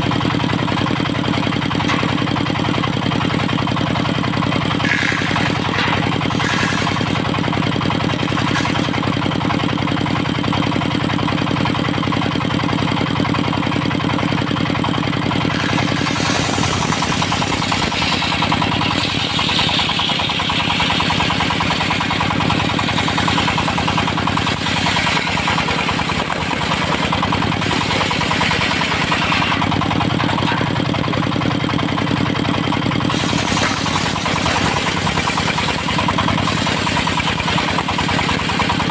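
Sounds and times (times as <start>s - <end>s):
diesel engine running: 0.0s - 38.9s
saw blade cutting log: 0.7s - 10.3s, 14.7s - 31.2s, 32.8s - 38.9s.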